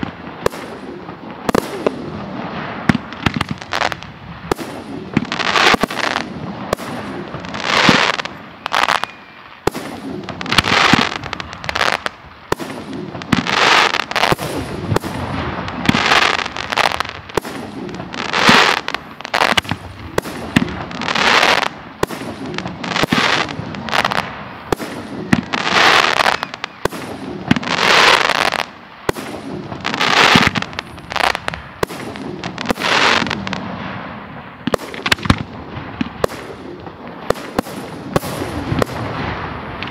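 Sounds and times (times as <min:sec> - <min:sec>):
fireworks bursts: 0:00.0 - 0:39.9.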